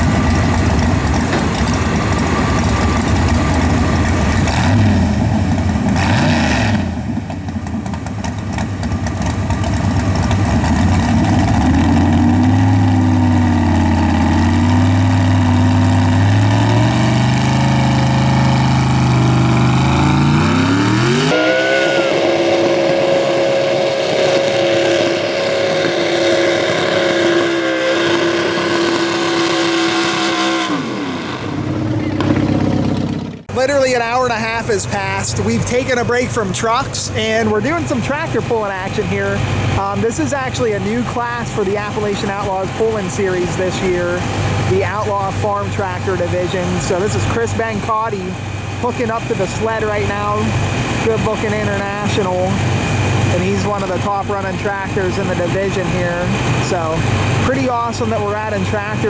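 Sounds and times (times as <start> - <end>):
truck engine revving under load: 0.0 - 59.0.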